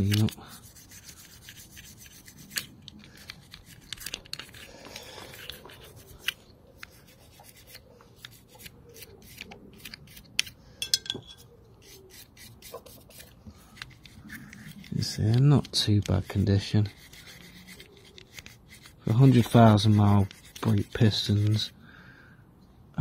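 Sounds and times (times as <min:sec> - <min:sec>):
hand scrubbing metal parts: 0:00.0 - 0:21.8.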